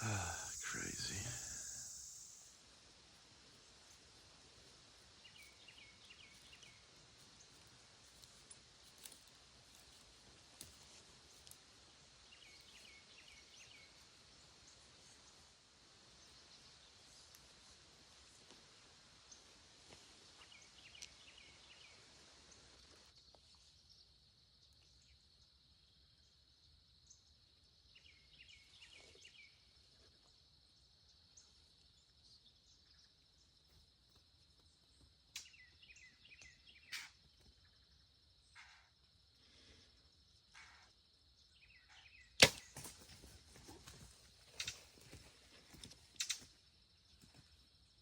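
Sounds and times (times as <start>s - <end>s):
insect trill: 0.0s - 15.2s, 23.2s - 48.0s.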